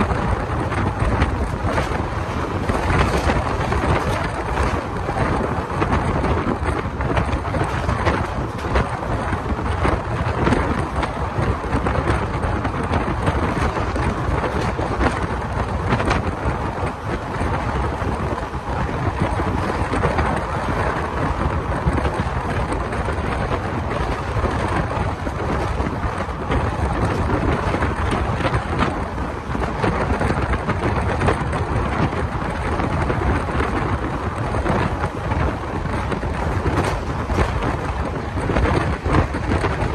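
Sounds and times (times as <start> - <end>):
train rumbling on track: 0.0 - 39.9
wind buffeting a microphone: 0.0 - 39.9.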